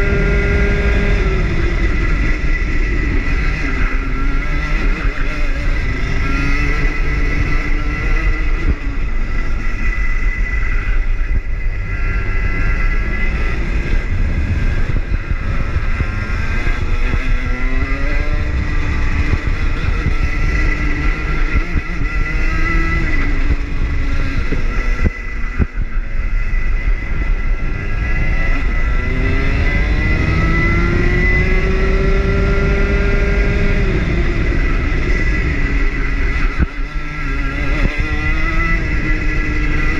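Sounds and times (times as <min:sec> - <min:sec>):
heavy low rumble: 0:00.0 - 0:39.9
kart engine at racing speed: 0:00.0 - 0:39.9.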